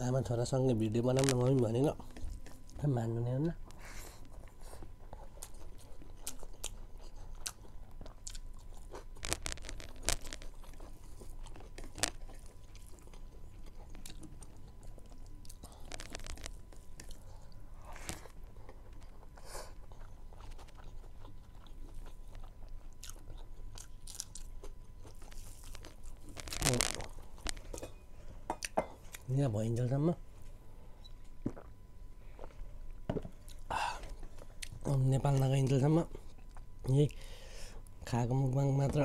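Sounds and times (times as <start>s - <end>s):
person chewing and crunching: 0.9s - 3.6s, 4.2s - 27.9s, 31.4s - 38.1s.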